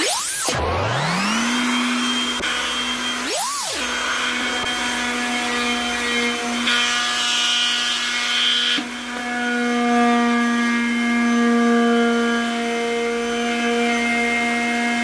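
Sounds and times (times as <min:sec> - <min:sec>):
electric sander on wood: 0:00.0 - 0:15.0.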